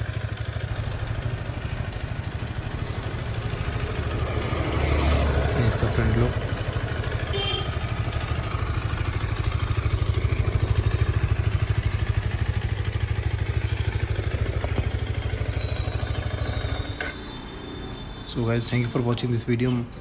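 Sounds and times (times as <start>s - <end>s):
motorcycle engine idling: 0.0s - 17.1s.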